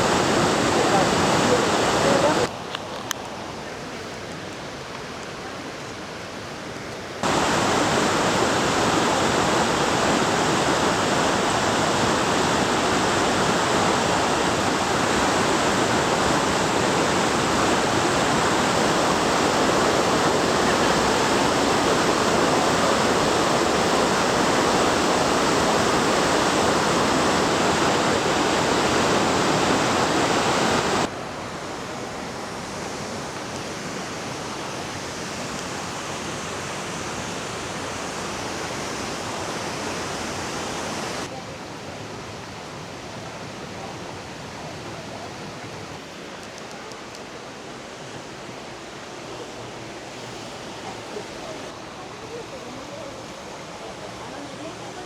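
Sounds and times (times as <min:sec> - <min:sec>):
waterfall rushing: 0:00.0 - 0:02.7, 0:07.2 - 0:55.0.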